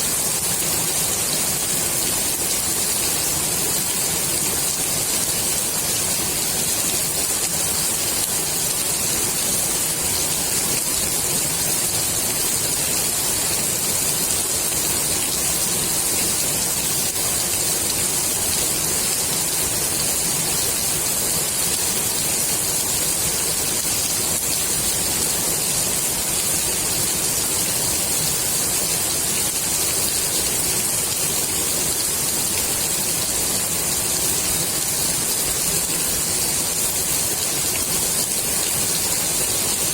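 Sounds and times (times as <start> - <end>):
rain falling on pool water: 0.0 - 39.9.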